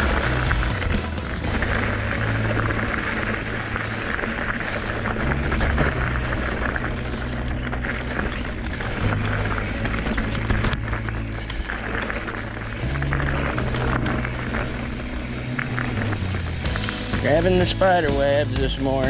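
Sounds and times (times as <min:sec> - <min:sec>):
bike rattling over bumps: 0:00.0 - 0:19.0
bike tyres on dirt trail: 0:00.0 - 0:19.0.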